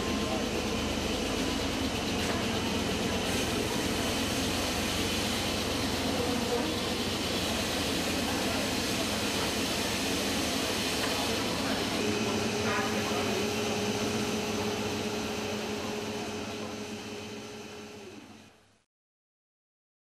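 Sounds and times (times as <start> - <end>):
factory machinery din: 0.0 - 18.6
forklift engine: 0.0 - 18.6.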